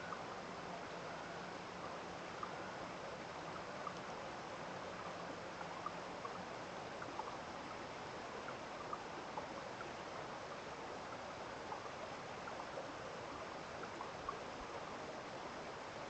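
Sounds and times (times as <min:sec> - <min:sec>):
small water plinks: 0:00.0 - 0:16.0
water flowing in a stream: 0:00.0 - 0:16.0.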